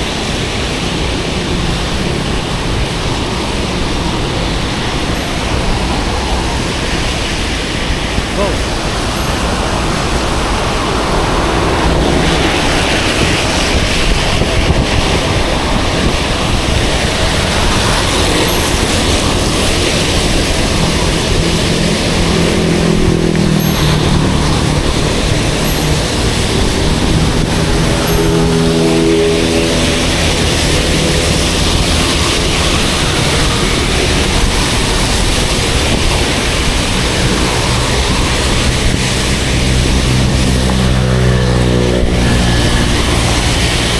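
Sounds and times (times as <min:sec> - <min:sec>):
vehicle engine passing: 0:00.0 - 0:43.9
wet road noise: 0:00.0 - 0:43.9
wind rushing on microphone: 0:00.0 - 0:43.9.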